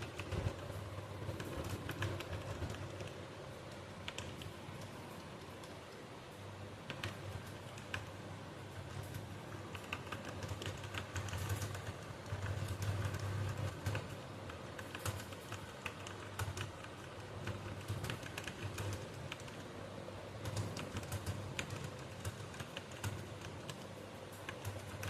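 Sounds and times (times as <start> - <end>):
typing on computer keyboard: 0.0 - 25.0.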